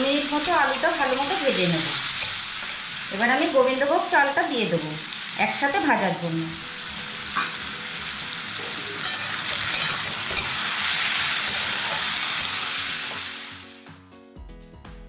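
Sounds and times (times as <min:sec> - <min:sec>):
potatoes and rice sizzling in oil: 0:00.0 - 0:13.9.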